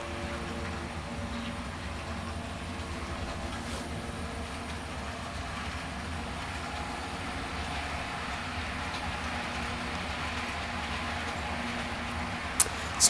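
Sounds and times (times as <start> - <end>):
model train humming: 0.0 - 13.0.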